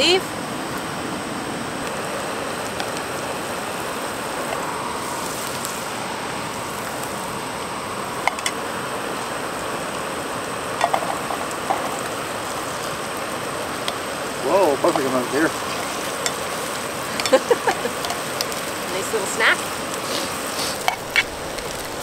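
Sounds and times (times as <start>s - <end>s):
food sizzling in butter: 1.7s - 22.0s.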